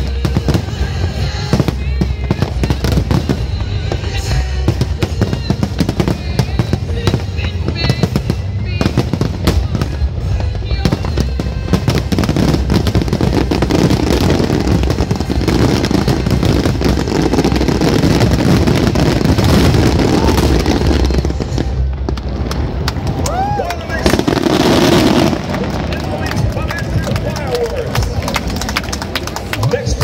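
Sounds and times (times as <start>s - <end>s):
fireworks bangs: 0.0s - 30.0s.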